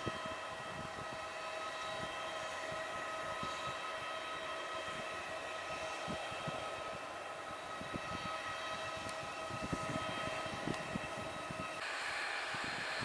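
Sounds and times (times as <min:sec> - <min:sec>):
aircraft engine whining: 0:00.0 - 0:13.0
wind buffeting microphone: 0:00.0 - 0:13.0.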